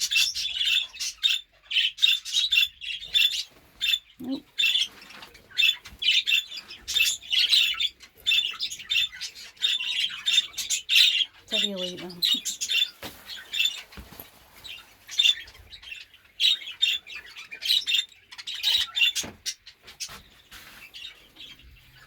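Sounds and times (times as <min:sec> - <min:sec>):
budgerigars chattering and squawking: 0:00.0 - 0:22.0.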